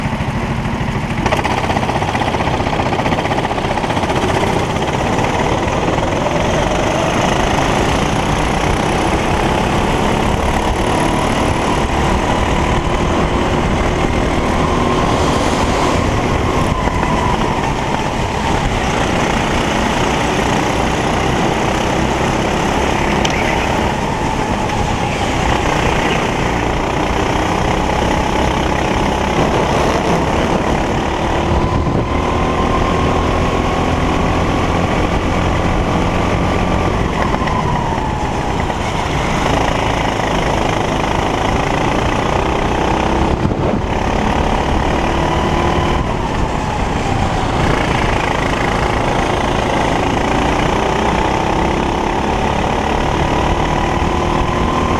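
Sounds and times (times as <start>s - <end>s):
kart engine running: 0.0s - 54.9s
steady rushing noise: 0.0s - 54.9s.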